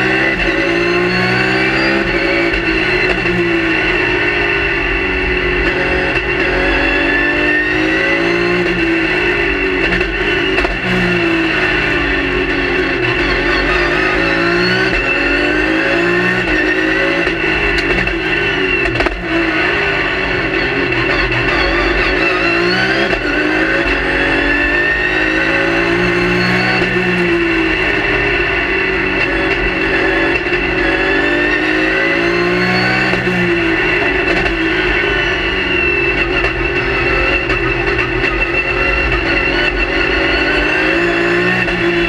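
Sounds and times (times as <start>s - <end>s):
race car engine revving: 0.0s - 42.0s
steady high whine: 0.0s - 42.0s.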